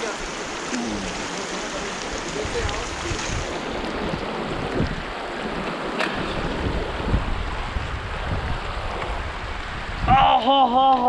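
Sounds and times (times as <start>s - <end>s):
stream rushing over stones: 0.0s - 11.0s
wind buffeting microphone: 1.0s - 10.4s.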